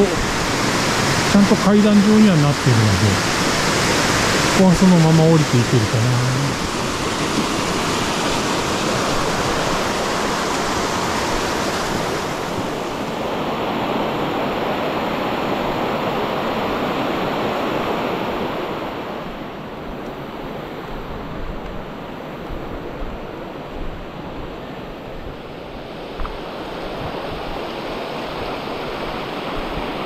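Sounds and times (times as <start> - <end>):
mountain stream rushing over rocks: 0.0 - 30.0.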